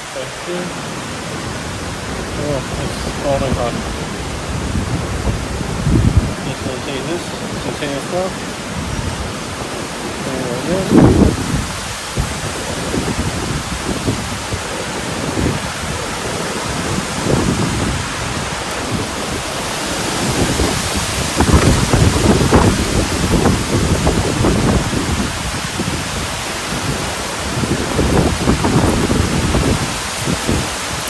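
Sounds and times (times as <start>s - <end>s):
strong wind buffeting microphone: 0.0s - 31.0s.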